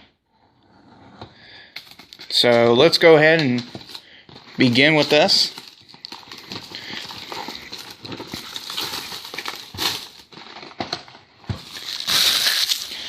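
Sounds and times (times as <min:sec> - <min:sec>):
plastic wrapping crinkling and tearing: 0:01.9 - 0:13.0.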